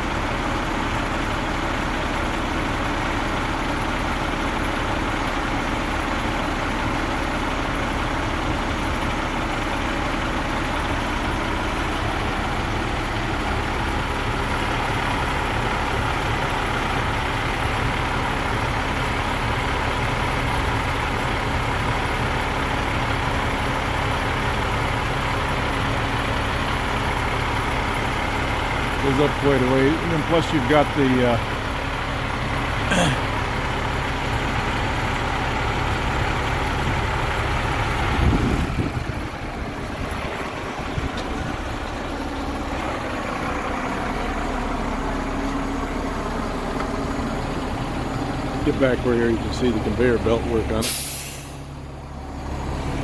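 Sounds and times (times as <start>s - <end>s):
diesel truck engine running: 0.0s - 53.0s.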